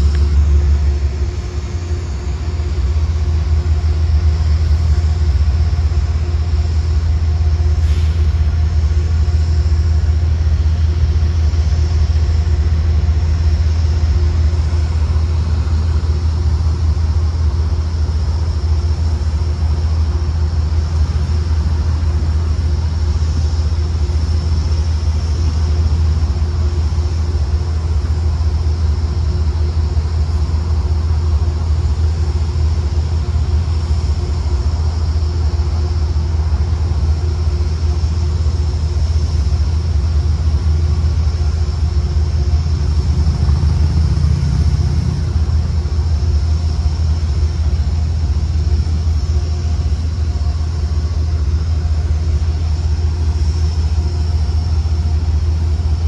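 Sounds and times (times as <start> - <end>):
car idling rumble: 0.0 - 56.0
faint steady hum: 0.0 - 56.0.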